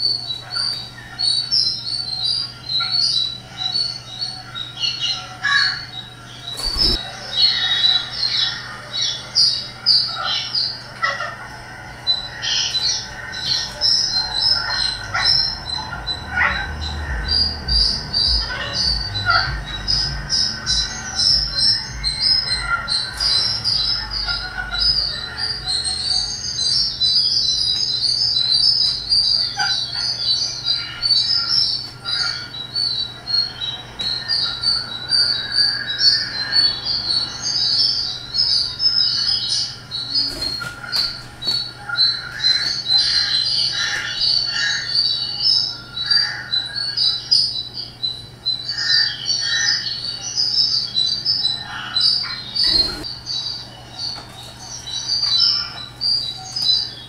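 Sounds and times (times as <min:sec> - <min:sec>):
birds chirping and twittering: 0:00.0 - 0:57.0
steady low hum: 0:00.0 - 0:57.0.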